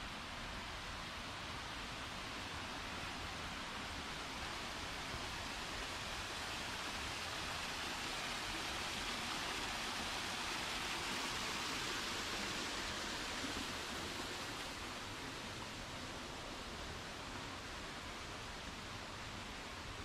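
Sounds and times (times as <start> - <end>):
small waterfall splashing: 1.2 - 20.0.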